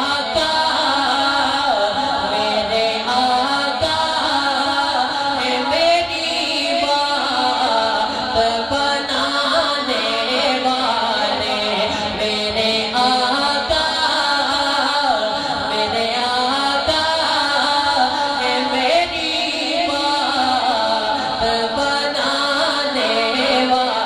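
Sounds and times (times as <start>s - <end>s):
man singing through microphone: 0.0s - 24.0s.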